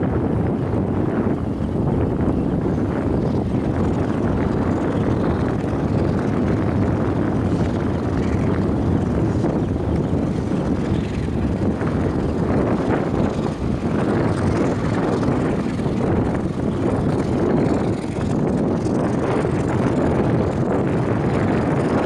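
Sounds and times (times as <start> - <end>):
diesel locomotive rumbling: 0.0 - 22.0.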